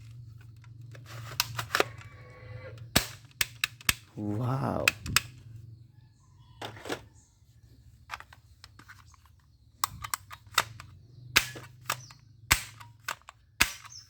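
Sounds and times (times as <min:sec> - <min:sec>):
toy gun plastic clicks: 0:00.0 - 0:05.4, 0:08.1 - 0:14.0.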